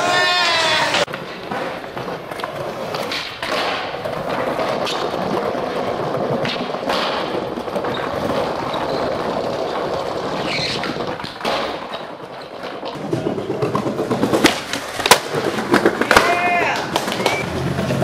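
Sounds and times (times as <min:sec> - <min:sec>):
skateboard wheels rolling on tiles: 0:00.0 - 0:18.0
skateboard clacks and thuds: 0:00.8 - 0:18.0.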